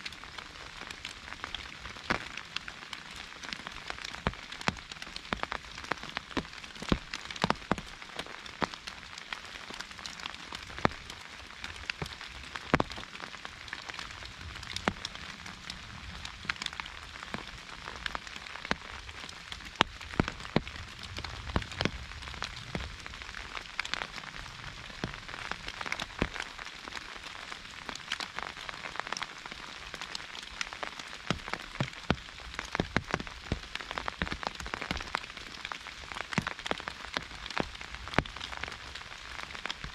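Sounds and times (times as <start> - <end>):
heavy raindrops striking: 0.0 - 39.9
rain on an umbrella: 0.0 - 39.9.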